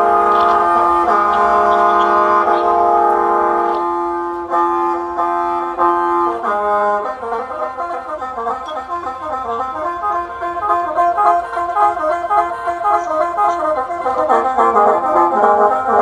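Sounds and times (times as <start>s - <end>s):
mouth organ chords over drone: 0.0s - 16.0s.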